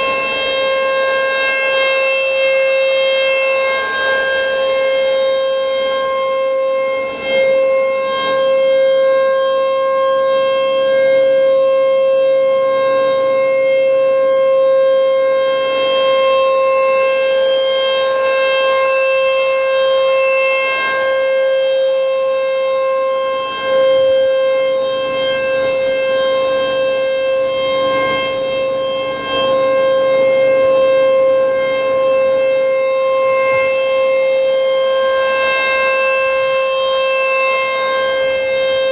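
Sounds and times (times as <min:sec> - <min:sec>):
steady warning siren: 0:00.0 - 0:38.9.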